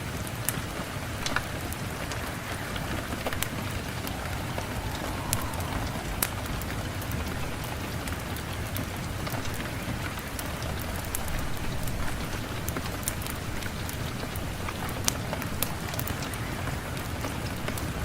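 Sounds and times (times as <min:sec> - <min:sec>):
rain on a hard surface: 0:00.0 - 0:18.0.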